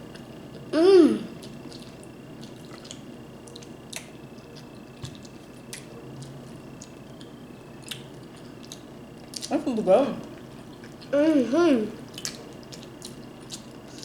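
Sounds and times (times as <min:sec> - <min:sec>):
wet squishes of eating: 0:01.3 - 0:11.1, 0:12.0 - 0:14.0.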